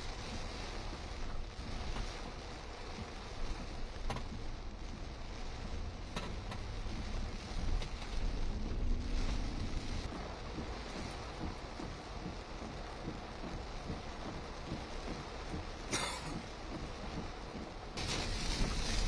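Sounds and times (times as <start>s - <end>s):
wind gusts rumbling: 0.0s - 15.8s
heavy rain hissing: 0.0s - 19.0s.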